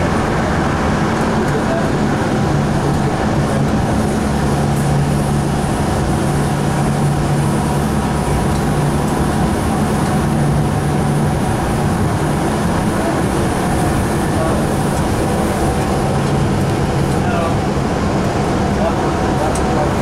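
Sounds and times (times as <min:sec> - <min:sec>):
light rail car rumble: 0:00.0 - 0:20.0.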